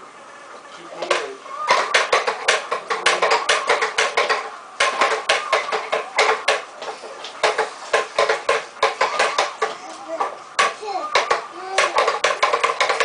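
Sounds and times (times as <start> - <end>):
toy walker rattling on wooden floor: 1.0 - 13.0.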